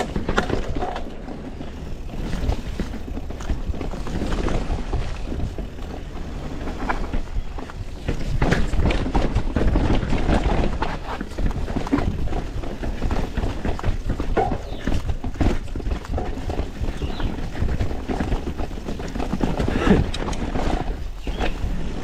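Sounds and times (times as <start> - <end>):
mountain bike clattering over rocks: 0.0 - 22.0
wind and ground rumble: 0.0 - 22.0.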